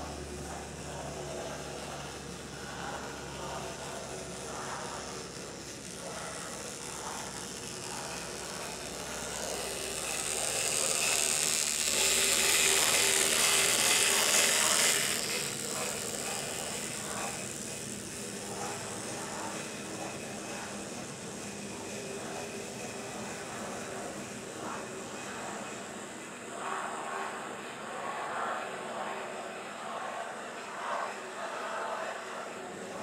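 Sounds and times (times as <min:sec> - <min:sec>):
model train whirring on rails: 0:00.0 - 0:33.0.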